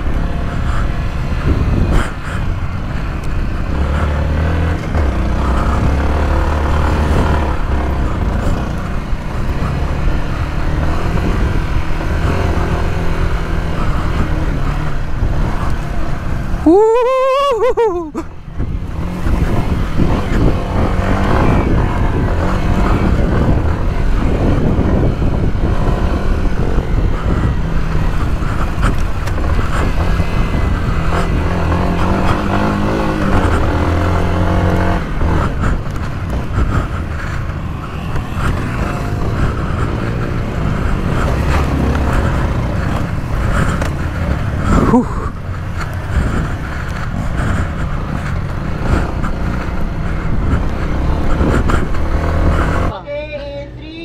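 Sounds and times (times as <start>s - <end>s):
dirt bike engine revving: 0.0s - 16.7s, 18.7s - 53.0s.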